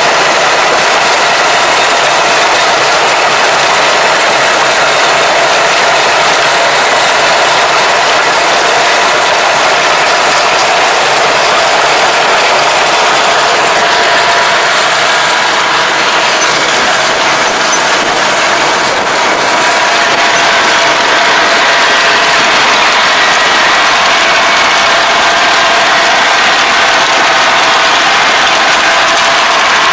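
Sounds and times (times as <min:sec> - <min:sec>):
tractor-driven rotary ridger working: 0:00.0 - 0:29.9.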